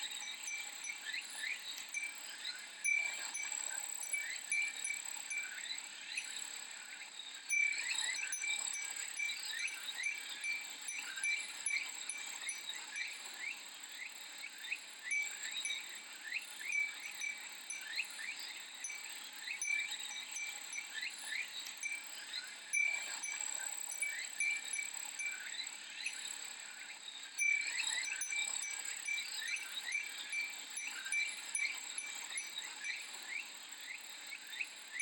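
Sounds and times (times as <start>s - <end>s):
cicadas singing: 0.0s - 35.0s
glass wind chime tinkling: 0.0s - 35.0s.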